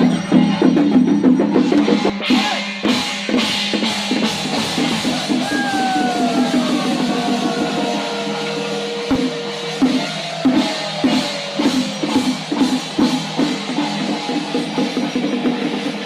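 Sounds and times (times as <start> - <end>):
drum strokes: 0.0 - 16.0.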